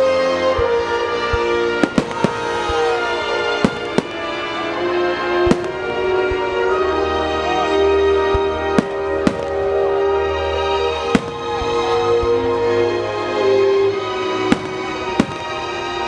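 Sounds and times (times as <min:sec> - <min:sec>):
music with long held tones: 0:00.0 - 0:16.0
fireworks bangs: 0:00.6 - 0:16.0.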